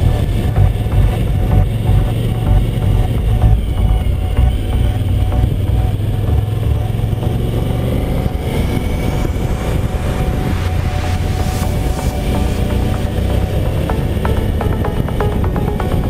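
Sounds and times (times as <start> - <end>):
motorcycle engine running: 0.0 - 16.0
wind rumble on microphone: 0.0 - 16.0.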